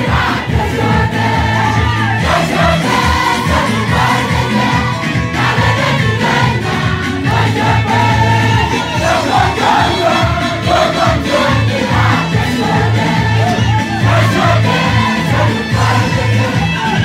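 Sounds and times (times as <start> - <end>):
congregation singing gospel song: 0.0 - 17.0
crowd noise: 0.0 - 17.0
music with bass and beat: 0.0 - 17.0.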